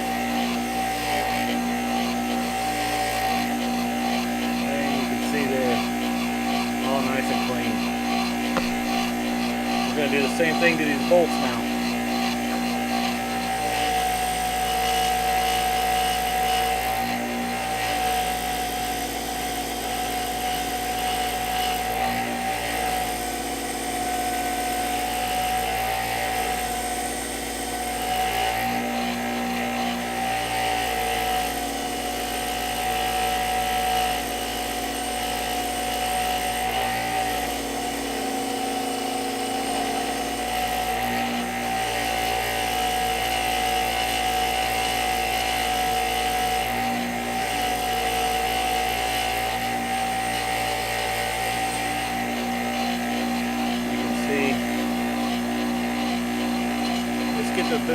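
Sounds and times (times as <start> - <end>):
wire wheel spinning whine: 0.0 - 57.9.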